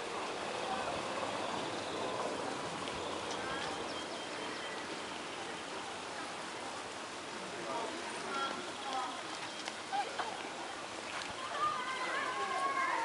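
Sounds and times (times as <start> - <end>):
distant voices murmuring: 0.0 - 13.0.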